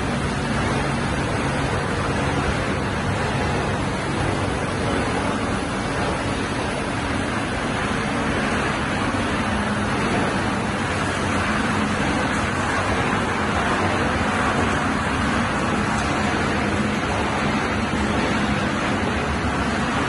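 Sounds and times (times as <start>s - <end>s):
machinery rushing noise: 0.0s - 20.0s.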